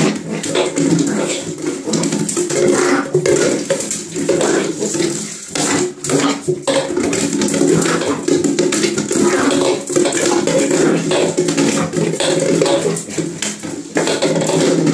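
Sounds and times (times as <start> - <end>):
plastic bottle clattering in bathtub: 0.0 - 14.9
puppy paws scrabbling on tub: 0.0 - 14.9.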